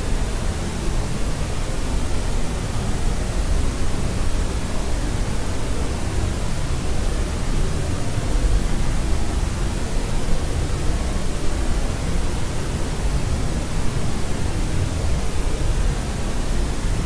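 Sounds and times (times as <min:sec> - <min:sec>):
steady white noise hiss: 0:00.0 - 0:17.0.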